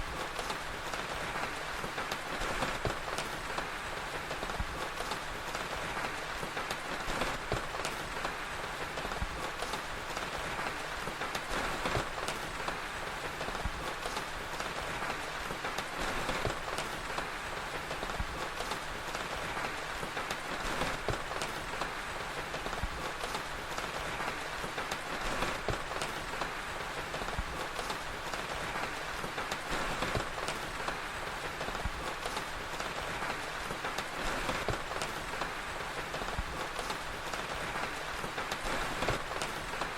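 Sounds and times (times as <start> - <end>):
fire crackling and popping: 0.0 - 39.9
steady rain hiss: 0.0 - 39.9.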